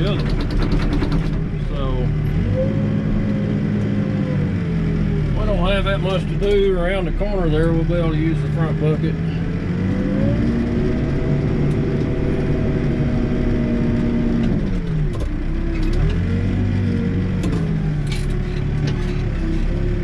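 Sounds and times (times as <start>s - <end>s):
diesel engine revving under load: 0.0s - 20.0s.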